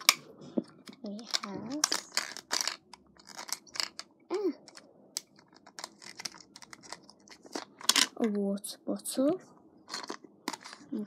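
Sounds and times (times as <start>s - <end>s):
plastic clicks and crinkles: 0.0s - 8.4s, 9.9s - 11.0s.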